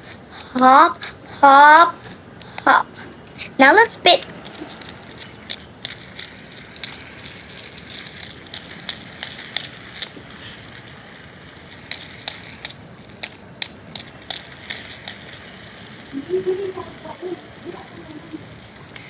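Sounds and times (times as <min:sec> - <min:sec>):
fidget spinner whirring: 0:00.0 - 0:19.0.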